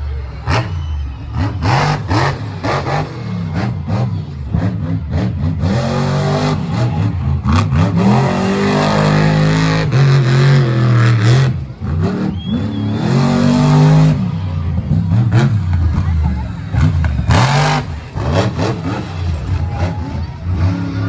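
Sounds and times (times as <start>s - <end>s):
truck engine revving hard: 0.0s - 21.0s.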